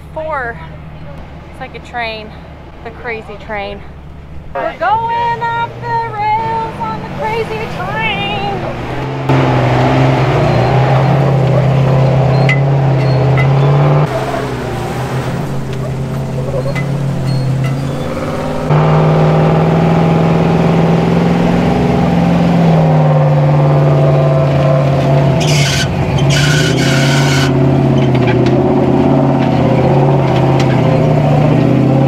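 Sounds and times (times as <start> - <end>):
engines running: 0.0 - 32.0
truck engine labouring at high revs: 0.0 - 32.0.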